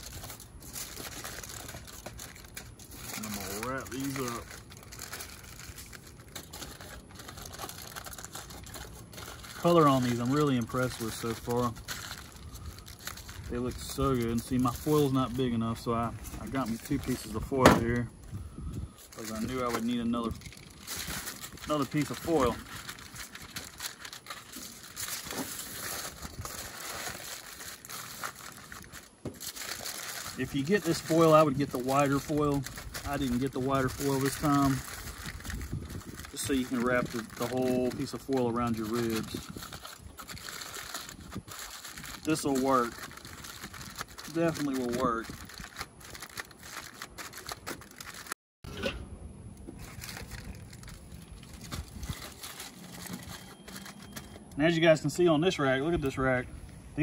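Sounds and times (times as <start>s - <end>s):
aluminium foil crinkling: 0.0s - 48.4s, 49.8s - 54.8s.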